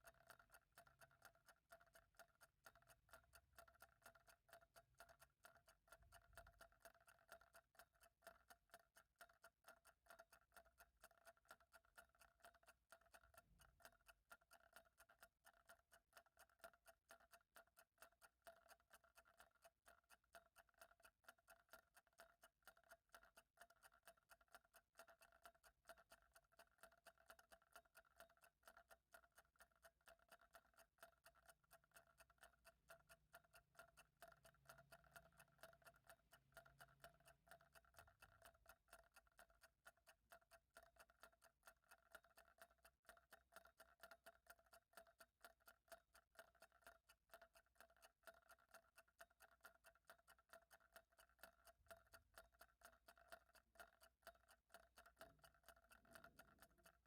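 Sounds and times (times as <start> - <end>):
faint clock ticking: 0.0 - 57.0.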